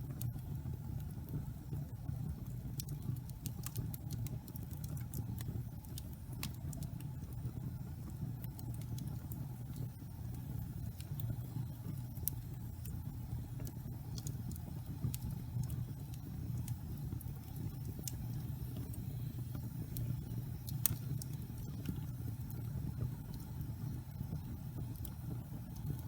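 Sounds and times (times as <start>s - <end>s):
fire crackles and pops: 0.0s - 26.0s
low rumble of fire flames: 0.0s - 26.0s.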